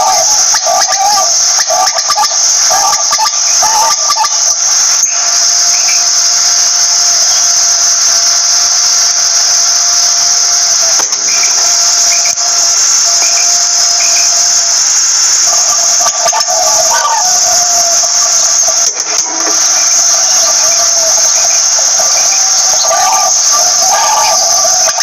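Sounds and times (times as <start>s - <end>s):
faint chirps: 0.0s - 25.0s
shrill insect drone: 0.0s - 25.0s
thin steady hum: 0.0s - 25.0s.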